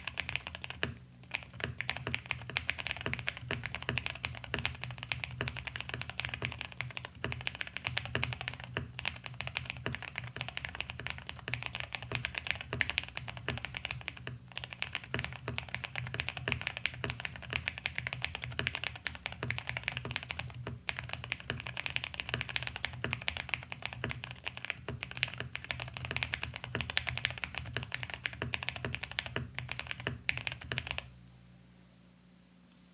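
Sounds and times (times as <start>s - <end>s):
mechanical keyboard typing: 0.0s - 31.1s
low steady hum: 0.0s - 32.9s.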